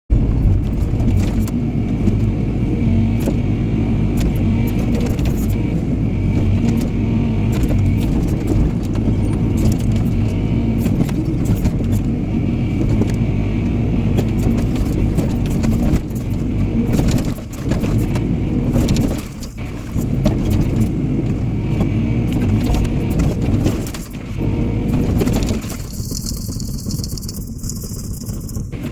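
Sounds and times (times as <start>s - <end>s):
diesel engine running: 0.1s - 28.9s.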